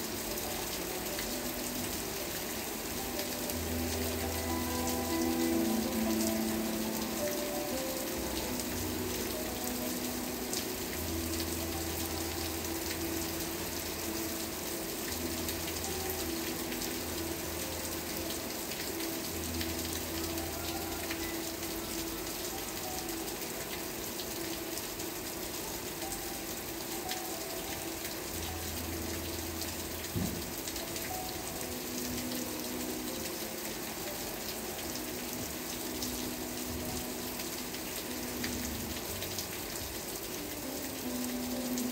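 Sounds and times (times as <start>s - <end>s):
raindrops ticking: 0.0s - 41.9s
steady rain falling: 0.0s - 41.9s.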